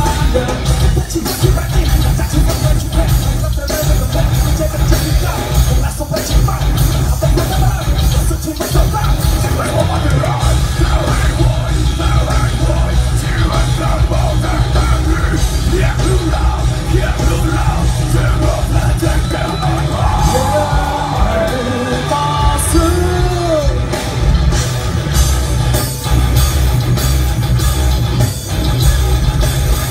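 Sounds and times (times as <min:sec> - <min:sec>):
person singing: 0:00.0 - 0:24.0
rock band playing live: 0:00.0 - 0:29.9.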